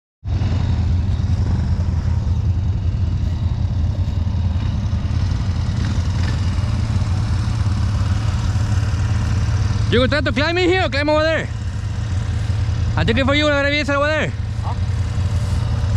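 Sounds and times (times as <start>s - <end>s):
engine idling: 0.2s - 15.9s.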